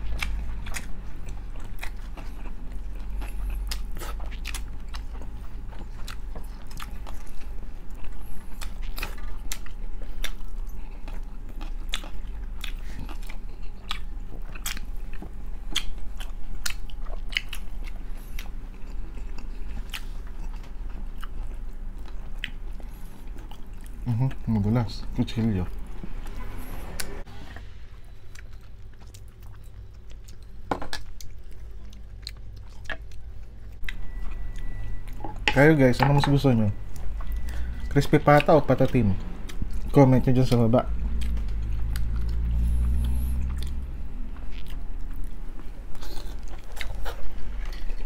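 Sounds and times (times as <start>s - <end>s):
chewing crispy pork skin: 0.0s - 27.2s, 28.2s - 48.0s
steady low hum: 0.0s - 48.0s.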